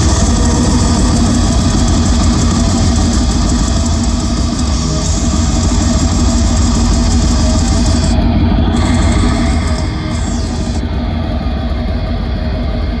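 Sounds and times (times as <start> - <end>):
live death metal band: 0.0 - 10.8.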